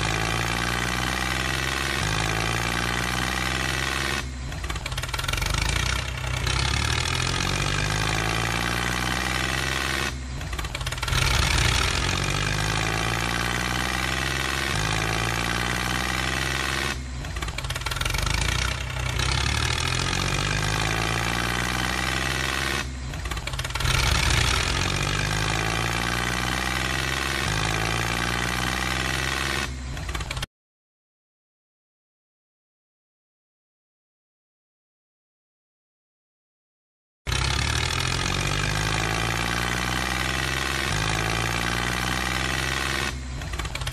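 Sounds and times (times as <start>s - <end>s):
tractor engine revving: 0.0s - 30.5s, 37.3s - 43.9s.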